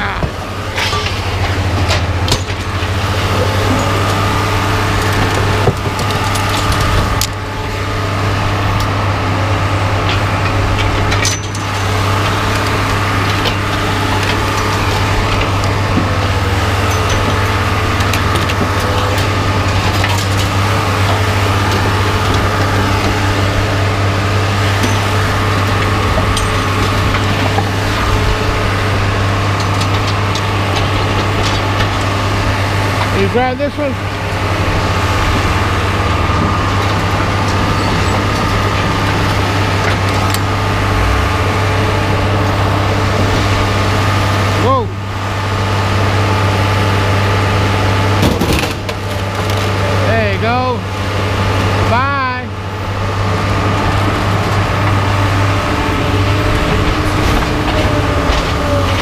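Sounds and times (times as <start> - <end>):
engine running with low hum: 0.0 - 59.0.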